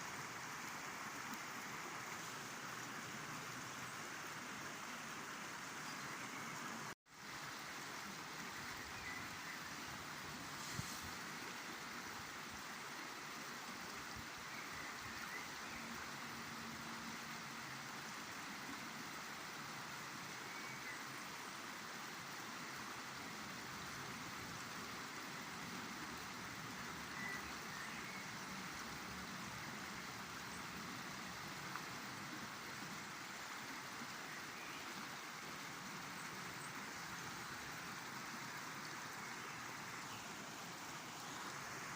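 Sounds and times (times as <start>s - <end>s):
river water rushing: 0.0s - 41.9s.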